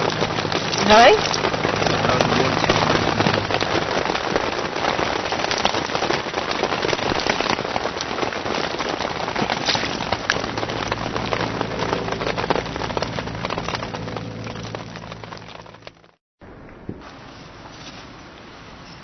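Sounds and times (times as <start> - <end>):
heavy rain on a tent: 0.0 - 16.2.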